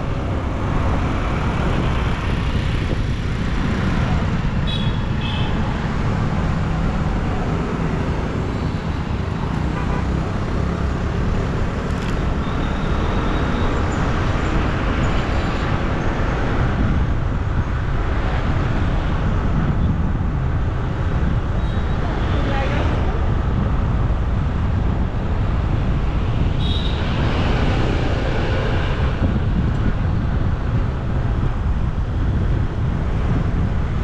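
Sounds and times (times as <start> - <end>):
road and traffic noise: 0.0 - 34.0
wind rushing across microphone: 0.0 - 34.0.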